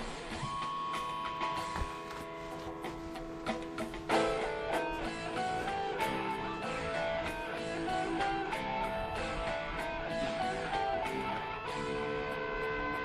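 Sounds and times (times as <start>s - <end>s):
guitar plucked and strummed: 0.0s - 13.0s.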